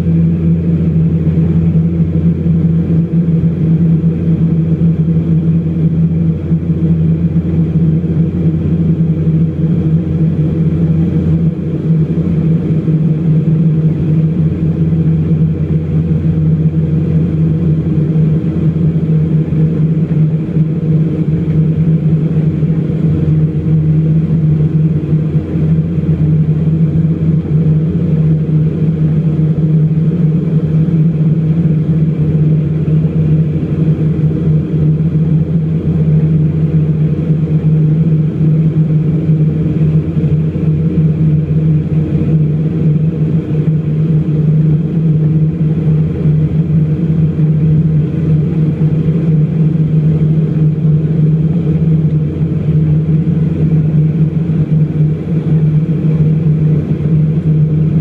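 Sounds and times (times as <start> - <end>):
turboprop engine drone in cabin: 0.0 - 58.0.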